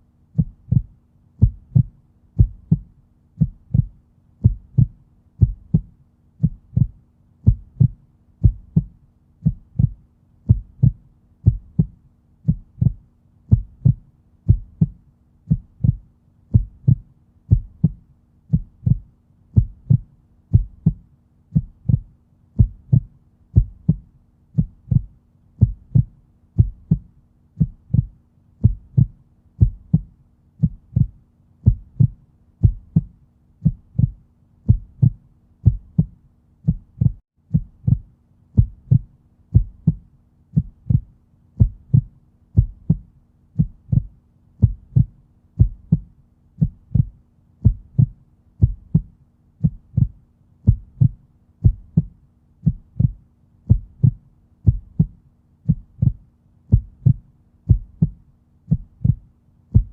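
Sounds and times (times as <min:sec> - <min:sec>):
faint steady hum: 0:00.0 - 0:59.9
heartbeat double thump: 0:00.4 - 0:21.0, 0:21.6 - 0:59.9.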